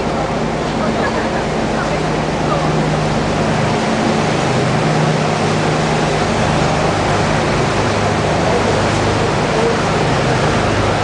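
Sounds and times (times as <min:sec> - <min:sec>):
boat engine humming: 0:00.0 - 0:11.0
rushing water: 0:00.0 - 0:11.0
wind: 0:00.0 - 0:11.0.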